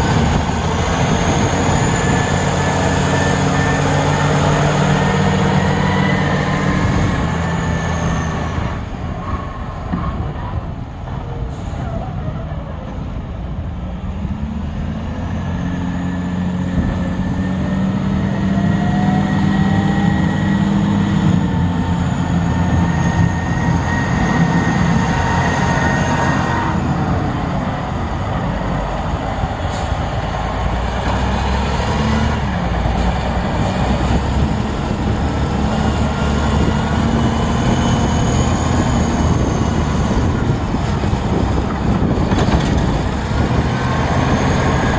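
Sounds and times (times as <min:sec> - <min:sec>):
diesel engine revving: 0:00.0 - 0:12.2, 0:13.8 - 0:44.9.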